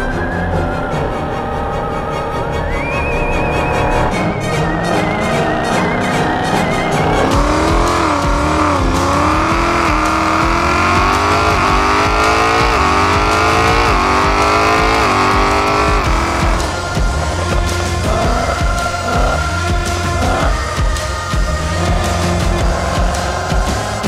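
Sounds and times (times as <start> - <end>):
music: 0.0 - 24.0
car engine revving hard: 0.3 - 24.0.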